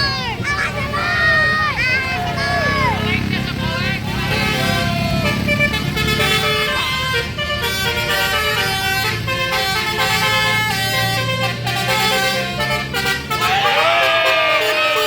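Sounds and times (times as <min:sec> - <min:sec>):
bus engine rumble: 0:00.0 - 0:15.0
multi-tone bus horn melody: 0:02.2 - 0:15.0.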